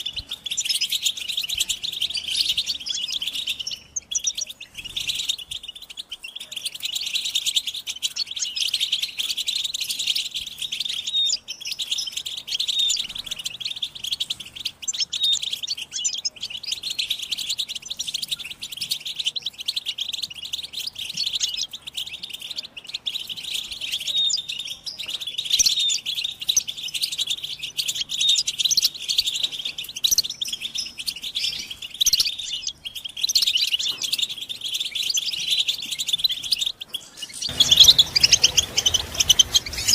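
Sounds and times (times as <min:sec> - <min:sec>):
birds twittering and chirping: 0:00.0 - 0:39.9.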